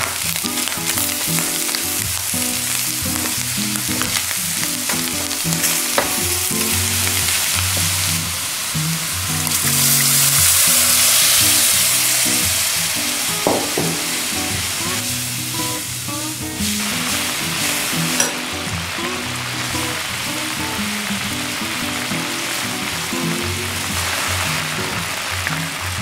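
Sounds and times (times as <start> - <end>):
corn sizzling in hot pan: 0.0 - 26.0.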